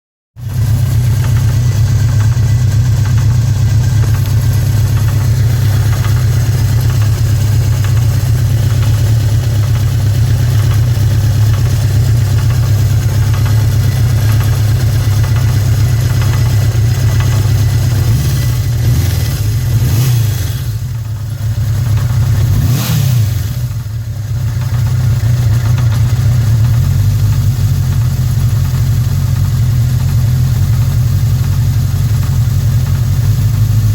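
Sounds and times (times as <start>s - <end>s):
motorcycle engine running with knock: 0.4s - 33.9s.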